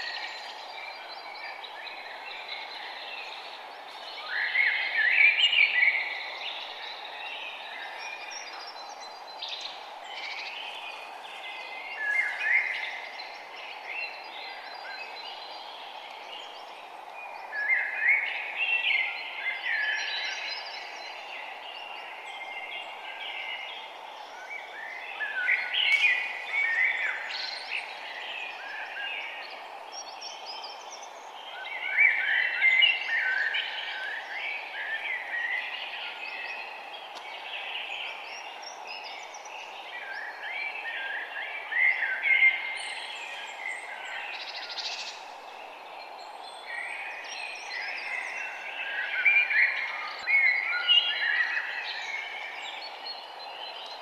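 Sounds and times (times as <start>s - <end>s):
songbirds chirping and singing: 0.0s - 54.0s
steady background hiss: 0.0s - 54.0s.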